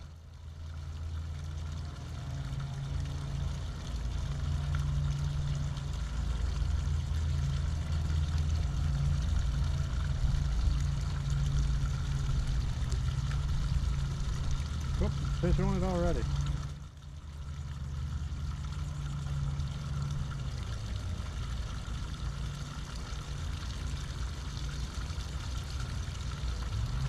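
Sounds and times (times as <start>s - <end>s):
motor humming: 2.4s - 27.0s.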